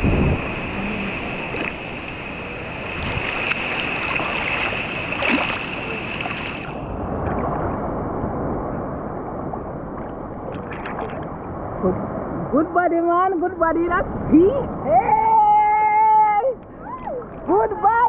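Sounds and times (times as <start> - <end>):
rough sea surf: 0.0 - 18.0.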